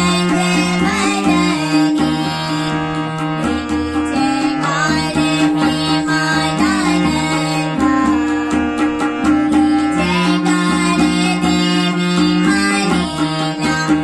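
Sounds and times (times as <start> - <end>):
girl singing devotional song: 0.0 - 14.0
harmonium sustained notes: 0.0 - 14.0
tabla strokes: 0.0 - 14.0.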